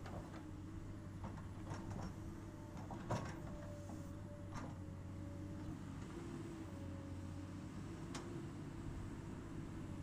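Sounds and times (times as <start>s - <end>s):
excavator engine hum: 0.0s - 10.0s.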